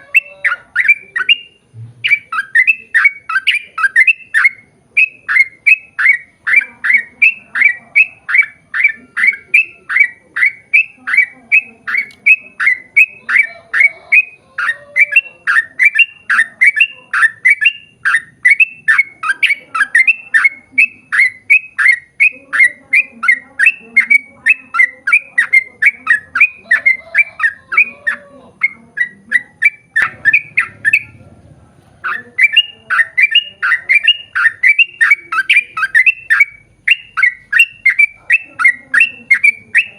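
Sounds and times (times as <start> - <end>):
bird singing rapid sharp notes: 0.0 - 31.4, 32.0 - 39.9.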